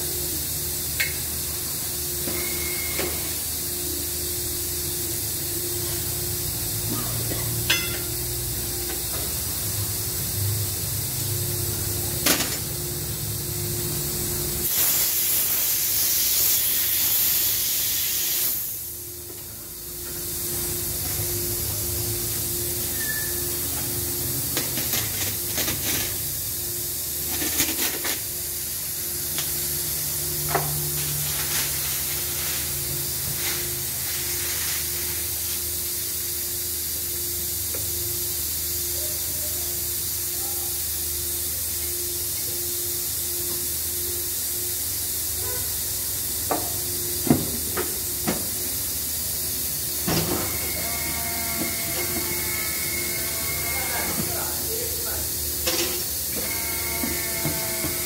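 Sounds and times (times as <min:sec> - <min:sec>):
machine hiss and low hum: 0:00.0 - 0:58.0.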